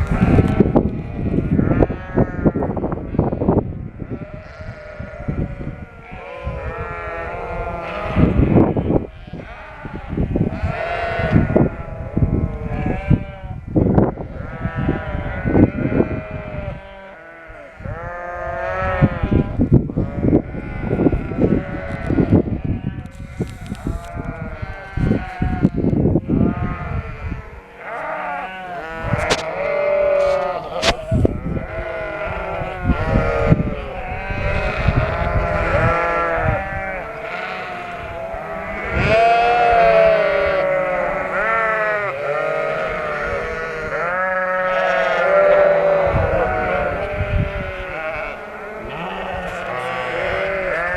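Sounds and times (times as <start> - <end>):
sheep bleating: 0.0 - 50.9.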